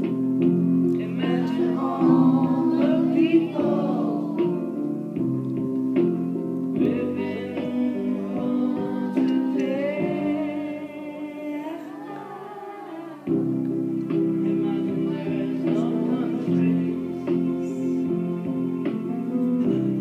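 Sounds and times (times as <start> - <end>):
instrumental accompaniment: 0.0 - 20.0
group of voices singing: 1.0 - 5.0, 6.8 - 18.8.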